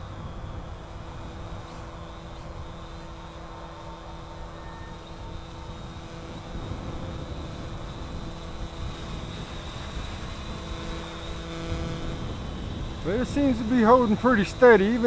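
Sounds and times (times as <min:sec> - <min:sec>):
quadcopter motors humming: 0:00.0 - 0:15.0
wind noise on microphone: 0:00.0 - 0:15.0.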